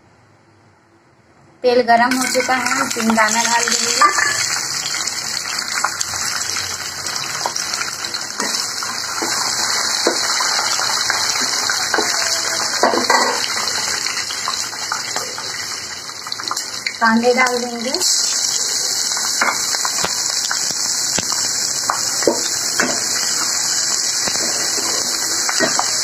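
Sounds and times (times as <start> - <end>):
peanuts frying in hot oil: 2.1 - 26.0.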